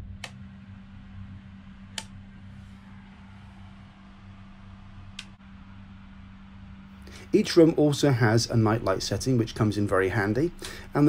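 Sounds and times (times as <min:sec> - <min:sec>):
train cabin low hum: 0:00.0 - 0:11.0.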